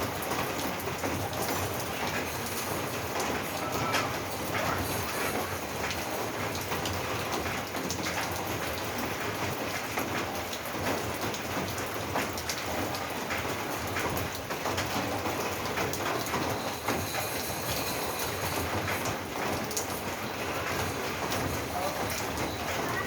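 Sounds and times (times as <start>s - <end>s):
rain falling on a roof: 0.0s - 23.0s.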